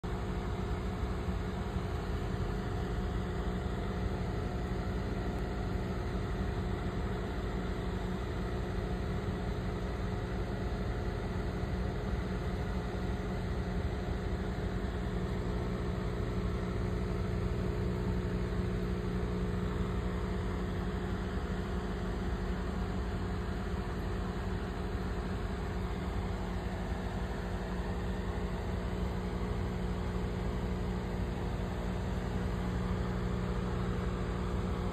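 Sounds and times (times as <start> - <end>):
aquarium air pump humming: 0.0 - 34.9.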